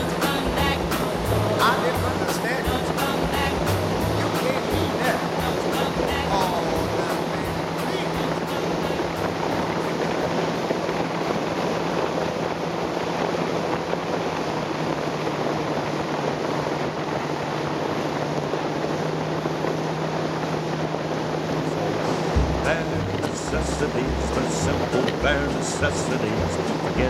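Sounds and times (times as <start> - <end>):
outboard motor droning: 0.0 - 27.0
water spray off hull: 0.0 - 27.0
wind on microphone: 0.0 - 27.0.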